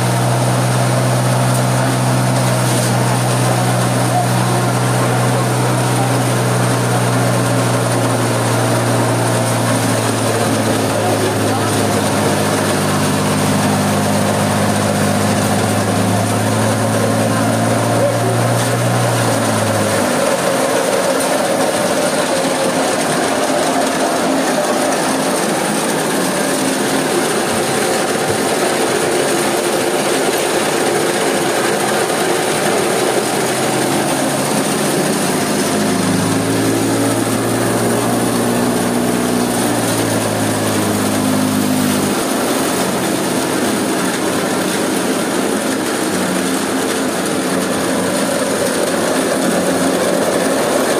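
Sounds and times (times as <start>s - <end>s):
stone crusher running: 0.0s - 50.9s.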